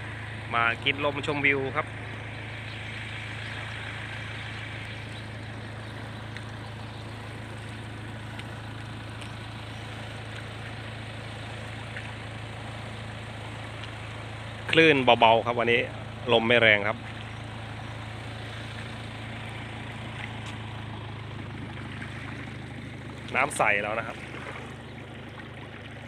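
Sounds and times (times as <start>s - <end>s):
waves lapping on sandy shore: 1.8s - 15.1s, 16.0s - 26.0s.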